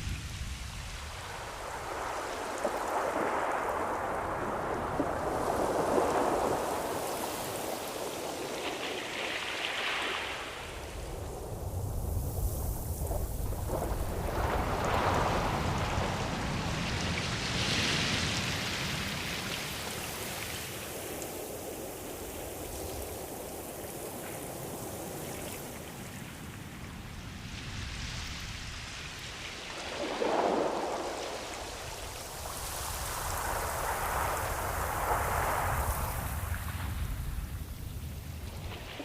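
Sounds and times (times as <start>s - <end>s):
ocean waves washing in: 0.0s - 39.0s.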